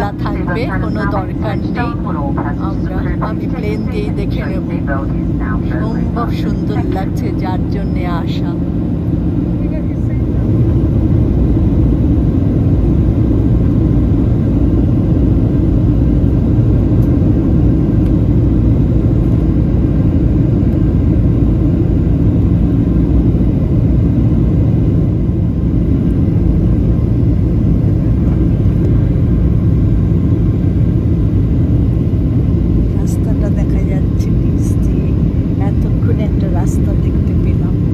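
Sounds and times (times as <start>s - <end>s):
aircraft cabin engine drone: 0.0s - 37.9s.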